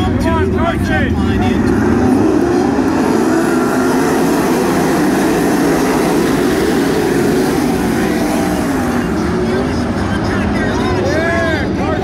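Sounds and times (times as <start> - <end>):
racing car engines roaring past: 0.0 - 12.0.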